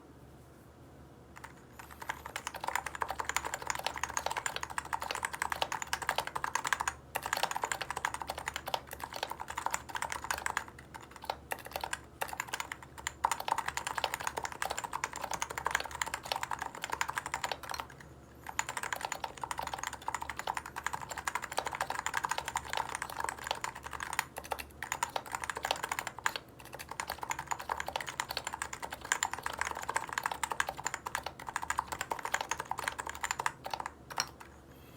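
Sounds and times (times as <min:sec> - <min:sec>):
keyboard typing: 0:01.4 - 0:34.6.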